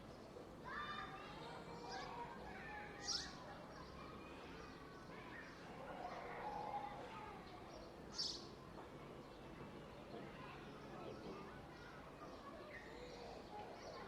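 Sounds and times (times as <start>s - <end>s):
distant indistinct voices: 0.0s - 14.0s.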